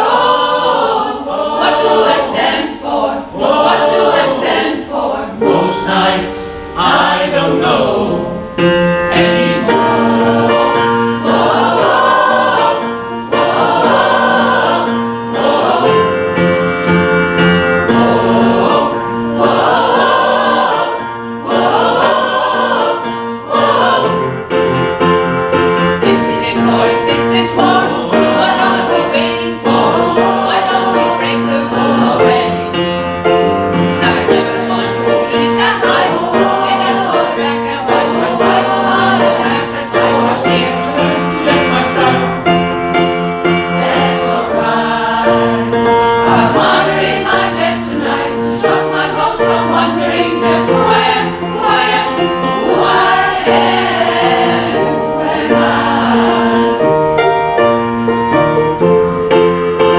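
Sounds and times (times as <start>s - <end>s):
choir singing in harmony: 0.0s - 59.9s
piano accompaniment: 0.0s - 59.9s.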